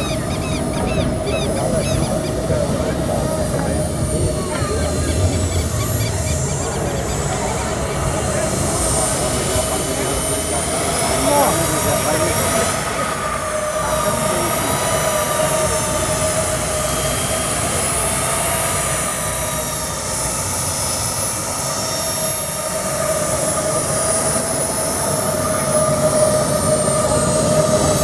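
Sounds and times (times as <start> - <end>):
model jet turbine whine: 0.0 - 28.0.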